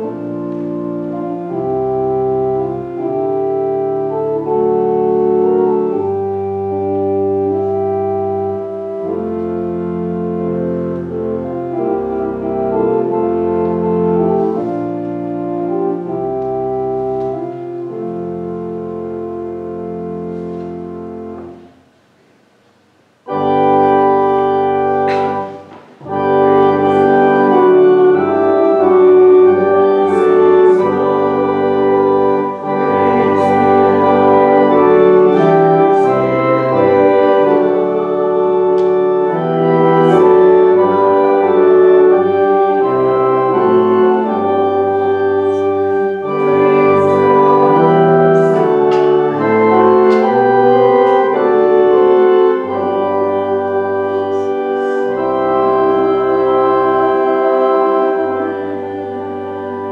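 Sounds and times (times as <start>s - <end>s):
organ playing sustained chords: 0.0s - 22.1s, 23.1s - 59.9s.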